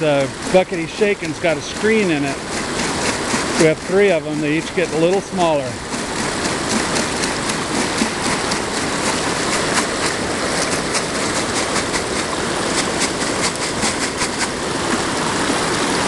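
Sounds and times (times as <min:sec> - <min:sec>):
gravel rattling in shaken buckets: 0:00.0 - 0:14.6
creek rushing: 0:00.0 - 0:16.0.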